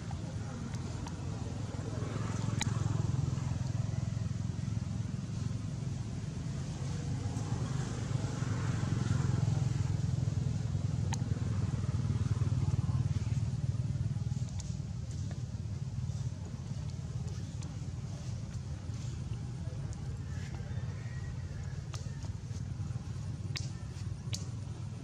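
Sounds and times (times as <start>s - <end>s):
motor traffic rumbling past: 0.0s - 25.0s.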